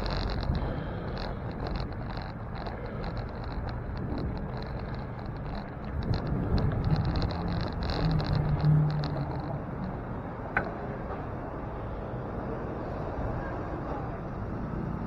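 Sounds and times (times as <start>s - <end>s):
low hum: 0.0s - 15.0s
street traffic: 0.0s - 15.0s.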